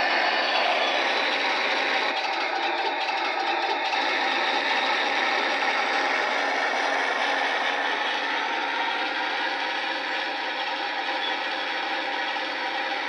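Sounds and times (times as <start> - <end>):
model tank rattling whir: 0.0 - 13.0.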